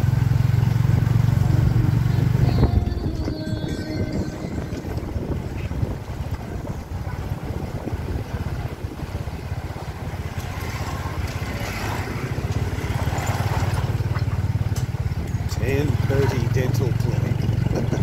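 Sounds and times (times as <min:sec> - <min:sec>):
small motorbike engine running: 0:00.0 - 0:18.0
wind noise on microphone: 0:00.6 - 0:18.0.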